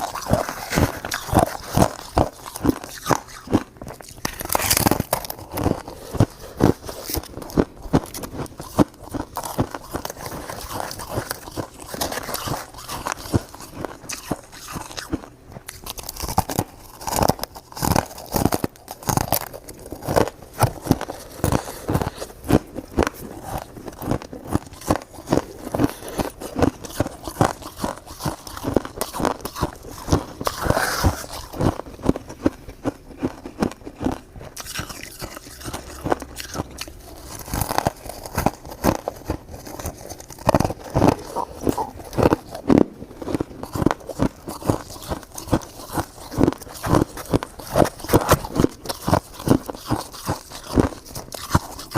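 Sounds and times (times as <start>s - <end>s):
chewing crunchy shaved ice: 0.0s - 51.9s.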